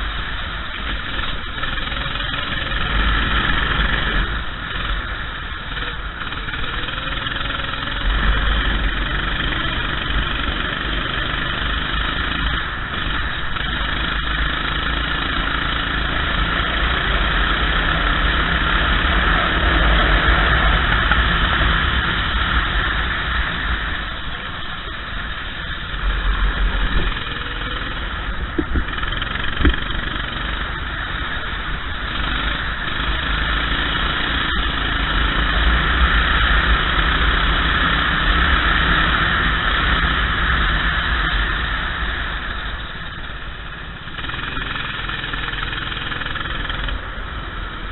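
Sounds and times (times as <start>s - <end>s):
go-kart engine revving: 0.0s - 47.9s
steady rushing noise: 0.0s - 47.9s.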